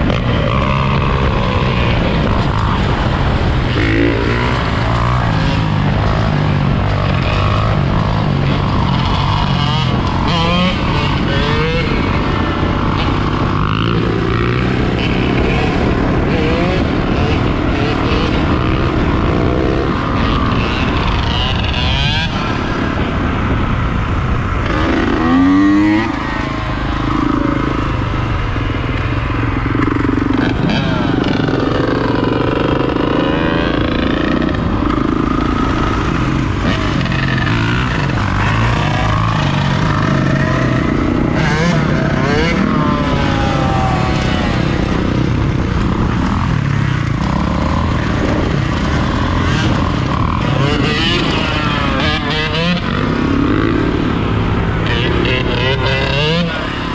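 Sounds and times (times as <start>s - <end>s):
motorcycle engines revving: 0.0s - 56.9s.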